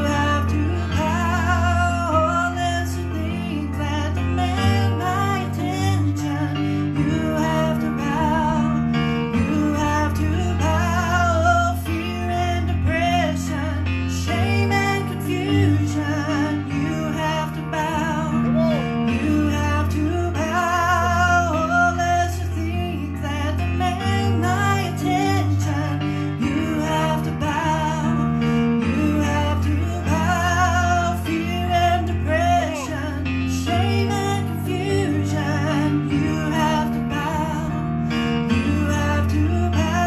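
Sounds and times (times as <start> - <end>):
electronic keyboard chords: 0.0 - 40.0.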